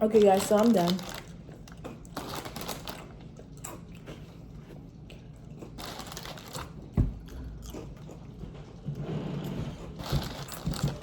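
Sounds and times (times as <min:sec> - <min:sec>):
person chewing and crunching: 0:00.0 - 0:09.0, 0:09.8 - 0:11.0.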